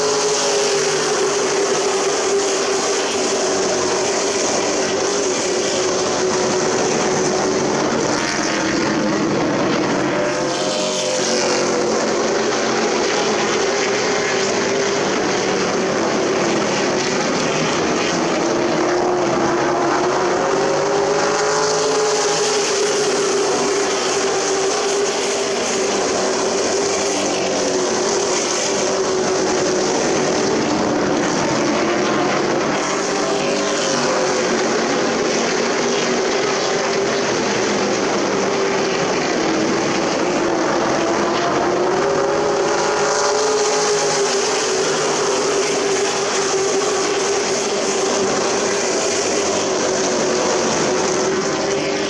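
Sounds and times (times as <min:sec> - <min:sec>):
racing truck engines: 0:00.0 - 0:52.0.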